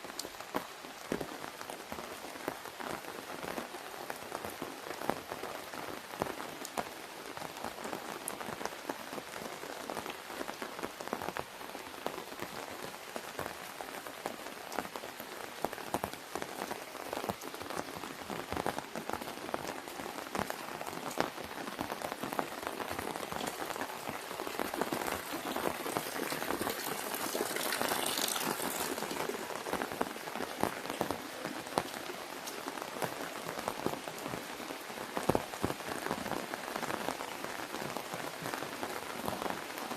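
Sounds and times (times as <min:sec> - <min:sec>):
rain falling on an umbrella: 0:00.0 - 0:39.9.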